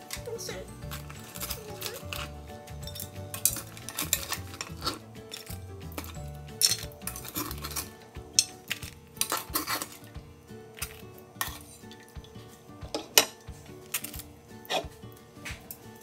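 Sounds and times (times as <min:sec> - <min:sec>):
utensils clinking on cookware: 0:00.0 - 0:10.1, 0:10.7 - 0:14.9
background music: 0:00.0 - 0:16.0.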